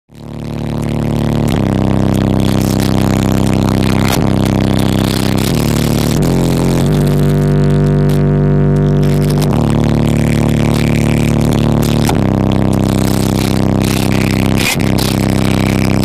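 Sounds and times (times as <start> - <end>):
bass-heavy music in car: 0.1 - 16.0.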